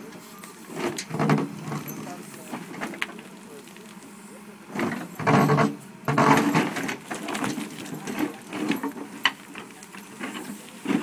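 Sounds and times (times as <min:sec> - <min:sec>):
backhoe bucket scraping soil and stones: 0:00.0 - 0:11.0.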